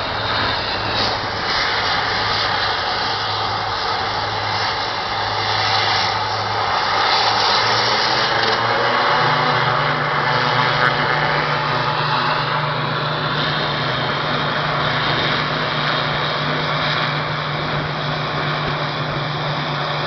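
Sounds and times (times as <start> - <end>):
turboprop aircraft taxiing: 0.0 - 20.0.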